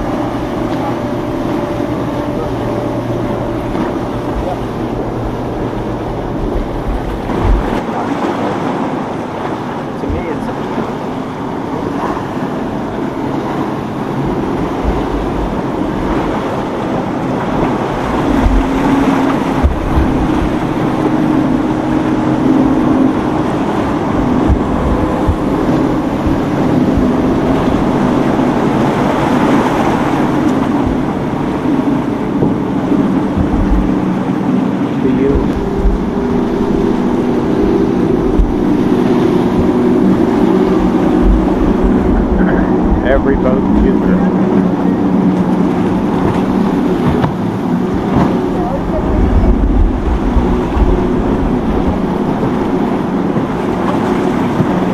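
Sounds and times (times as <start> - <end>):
motorboat engine running: 0.0 - 54.9
surf rushing: 0.0 - 54.9
wind buffeting microphone: 0.0 - 54.9.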